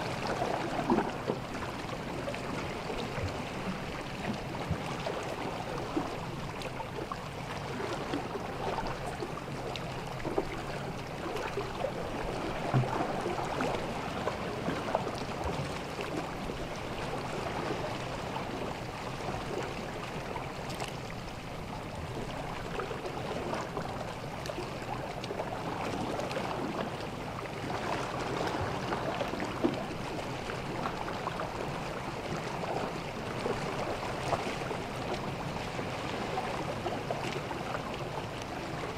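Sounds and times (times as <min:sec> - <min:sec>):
sea waves washing on beach: 0:00.0 - 0:38.9.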